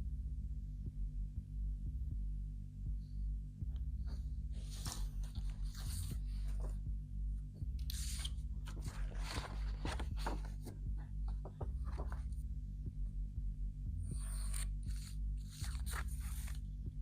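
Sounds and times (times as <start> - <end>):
throbbing low bass: 0.0 - 17.0.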